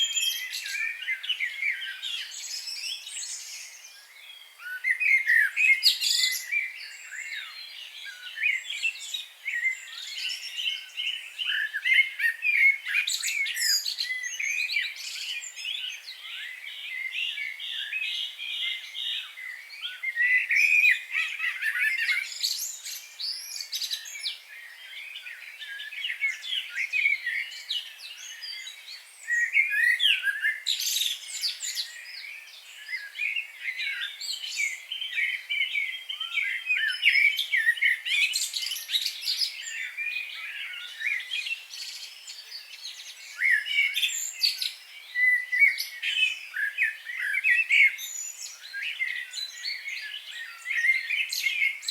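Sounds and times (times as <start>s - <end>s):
songbirds chirping and singing: 0.0s - 51.9s.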